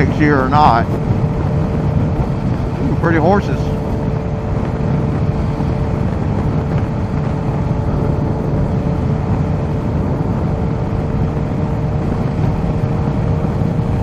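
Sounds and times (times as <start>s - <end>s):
motorcycle engine running: 0.0s - 14.0s
wind rush over microphone: 0.0s - 14.0s.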